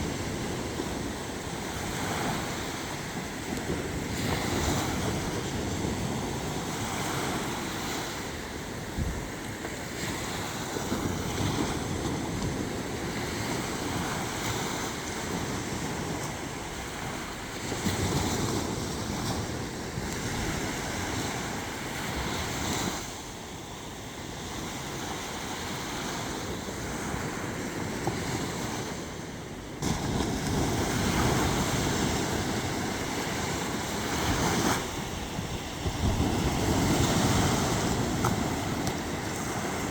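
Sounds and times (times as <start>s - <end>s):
sea waves washing onto shore: 0.0s - 39.9s
wind rumbling on microphone: 0.0s - 39.9s.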